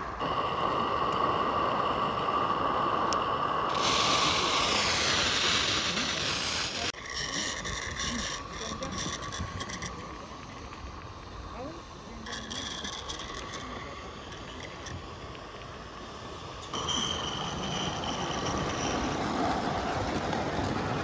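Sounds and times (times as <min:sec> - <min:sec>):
high steam hiss: 0:00.0 - 0:21.0
steam locomotive hissing: 0:00.0 - 0:21.0.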